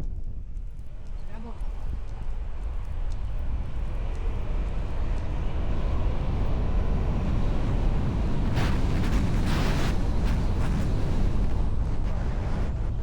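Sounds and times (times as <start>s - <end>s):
vehicle road and wind noise: 0.0s - 13.0s.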